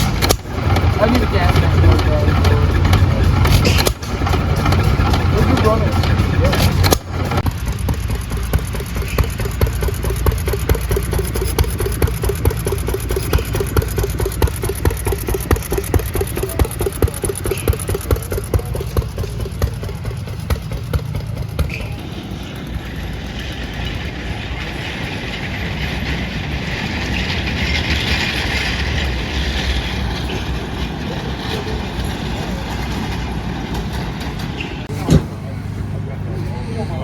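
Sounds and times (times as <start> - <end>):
engine chugging: 0.0 - 37.0.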